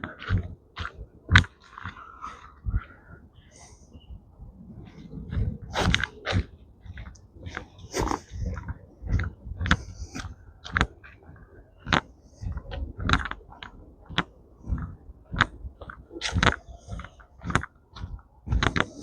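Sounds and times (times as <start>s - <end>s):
footsteps on a forest trail: 0.0s - 3.0s, 4.8s - 19.0s.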